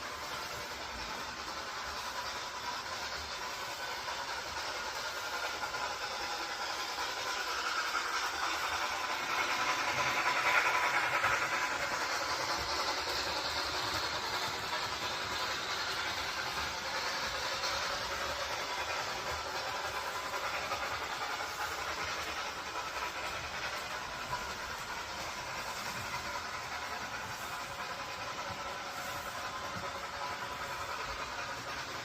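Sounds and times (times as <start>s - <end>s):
train passing: 0.0s - 32.0s.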